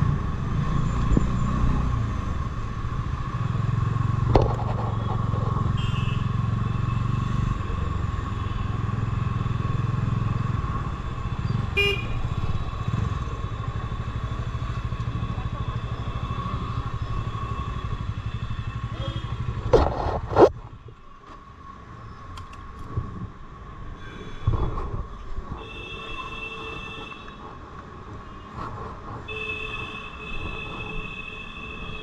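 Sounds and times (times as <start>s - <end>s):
street background: 0.0s - 32.0s.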